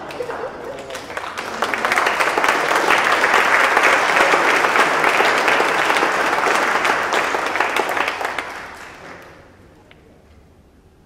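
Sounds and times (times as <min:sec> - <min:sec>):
crowd clapping: 0:00.0 - 0:09.6.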